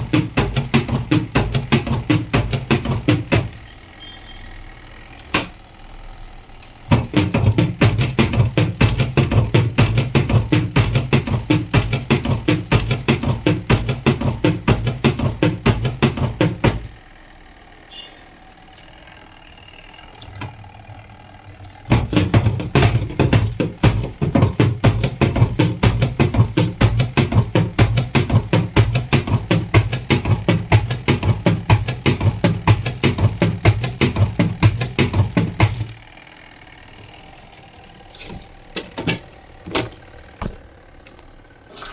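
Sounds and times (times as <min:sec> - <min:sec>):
washing machine knocking rhythmically: 0:00.0 - 0:05.9, 0:06.7 - 0:18.0, 0:20.0 - 0:37.4, 0:38.0 - 0:41.6
washing machine humming: 0:00.0 - 0:41.9.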